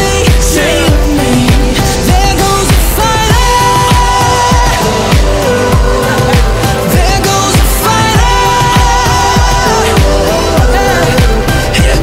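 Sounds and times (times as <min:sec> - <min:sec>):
heavy bass drum: 0:00.0 - 0:12.0
hip-hop backing track: 0:00.0 - 0:12.0.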